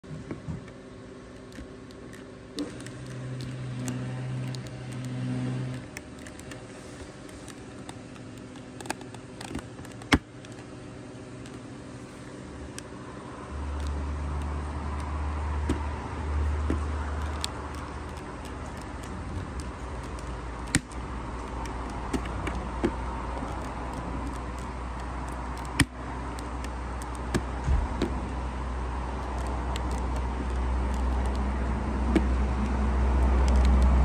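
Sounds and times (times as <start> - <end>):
low rumble and hum: 0.0 - 34.0.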